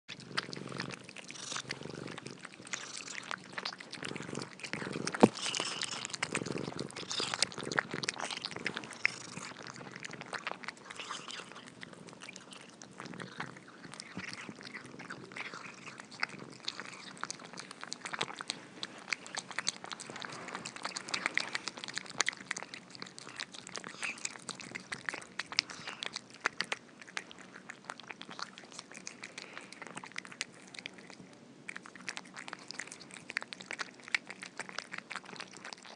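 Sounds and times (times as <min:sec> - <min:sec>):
cats chewing and crunching: 0:00.1 - 0:35.9.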